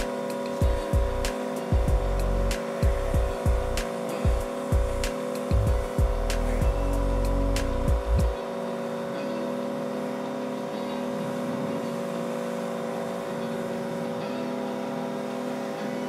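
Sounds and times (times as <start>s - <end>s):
pressure washer motor hum: 0.0s - 16.0s
water jet spraying on wheel: 0.0s - 16.0s.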